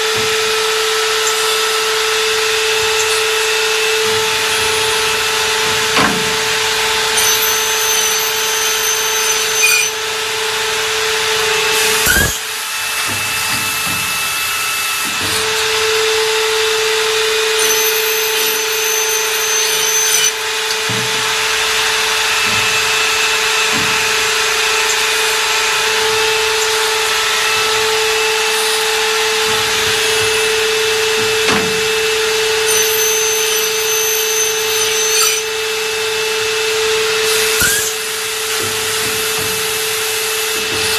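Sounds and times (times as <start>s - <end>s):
machine whine: 0.0s - 40.9s
sharp knocks: 2.8s - 9.9s, 11.5s - 15.8s, 17.5s - 35.5s, 37.4s - 40.9s.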